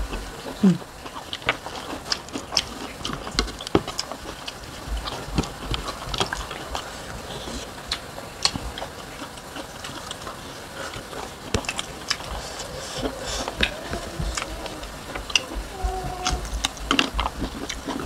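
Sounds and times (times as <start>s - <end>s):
chewing and wet mouth sounds: 0.0s - 18.0s.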